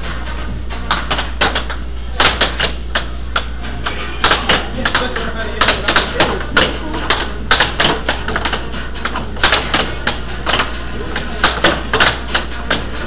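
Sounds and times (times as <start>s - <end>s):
steady low hum: 0.0s - 13.0s
air hockey puck clacking: 0.9s - 13.0s.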